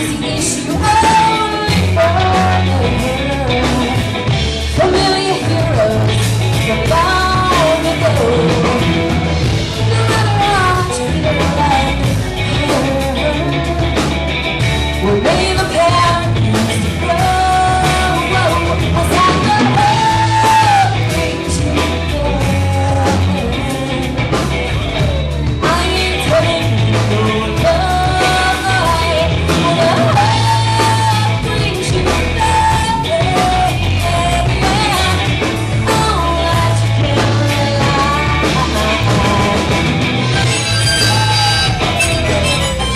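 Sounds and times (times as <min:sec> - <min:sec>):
live rock band playing: 0:00.0 - 0:42.9
person singing: 0:00.0 - 0:42.9.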